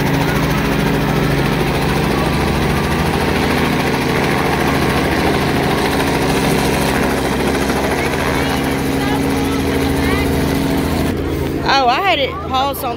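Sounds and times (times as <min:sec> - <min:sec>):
helicopter rotor and engine: 0:00.0 - 0:12.9.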